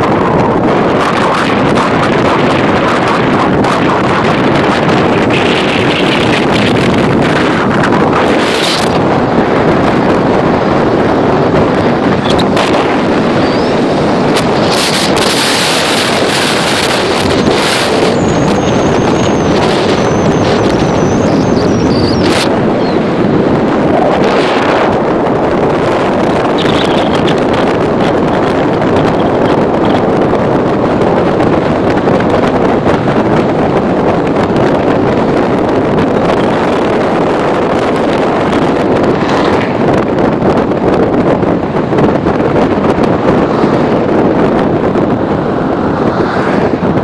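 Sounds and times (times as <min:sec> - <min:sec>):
road noise: 0:00.0 - 0:47.0
wind buffeting microphone: 0:00.0 - 0:47.0.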